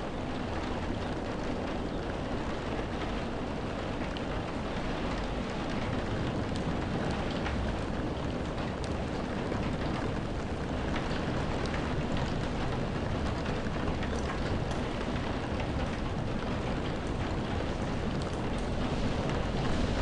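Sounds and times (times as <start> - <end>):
heavy rain on windows: 0.0 - 20.0.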